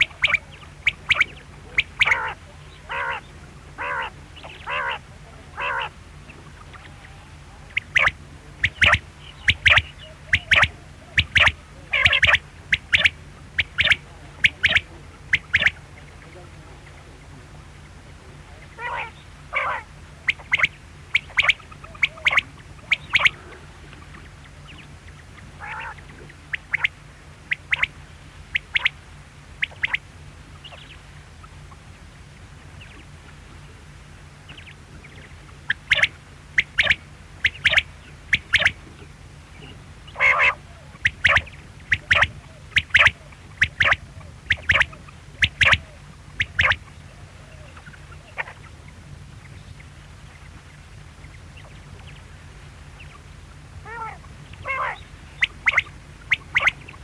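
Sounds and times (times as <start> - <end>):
quail calling: 0.0 - 32.0, 34.4 - 52.3, 52.9 - 57.0
steady low hum: 0.0 - 57.0.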